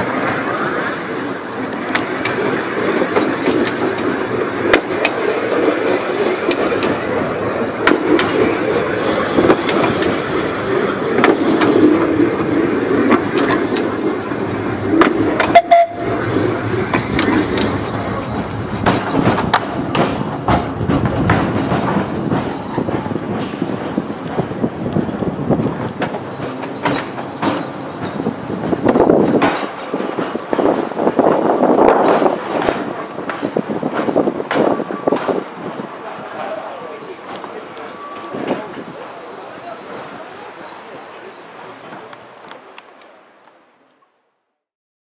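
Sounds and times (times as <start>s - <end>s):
clicks over rail joints: 0.0s - 39.0s
tram wheels rumbling on track: 0.0s - 44.2s.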